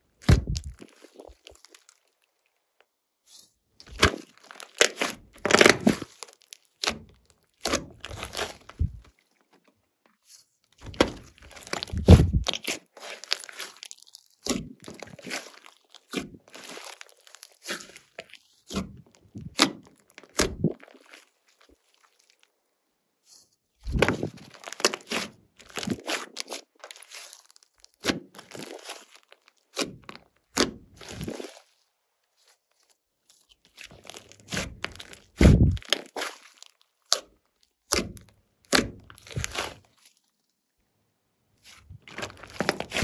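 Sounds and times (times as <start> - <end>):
slime squishing by hand: 0.1 - 22.6, 23.2 - 40.4, 41.6 - 43.0.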